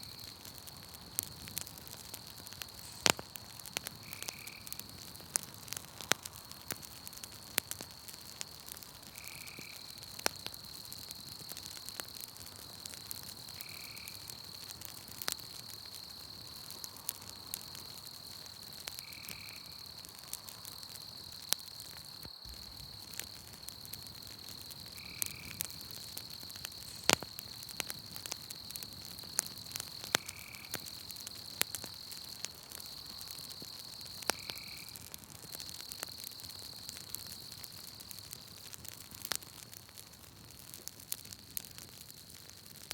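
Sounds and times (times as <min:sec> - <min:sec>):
burning wood popping: 0:00.0 - 0:42.9
campfire crackling: 0:00.0 - 0:42.9
night insects trilling: 0:00.0 - 0:42.9.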